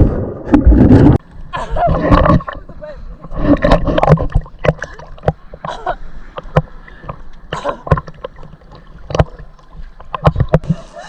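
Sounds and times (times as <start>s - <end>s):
paddles splashing and knocking: 0.0s - 11.0s.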